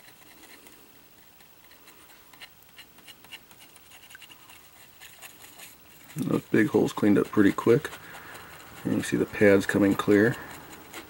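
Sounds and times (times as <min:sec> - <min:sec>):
brush scrubbing wet circuit board: 0:00.0 - 0:11.0.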